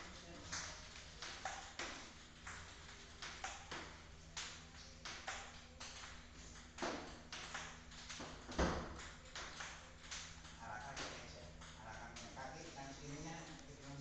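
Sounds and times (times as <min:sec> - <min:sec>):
table tennis balls clicking: 0:00.0 - 0:14.0.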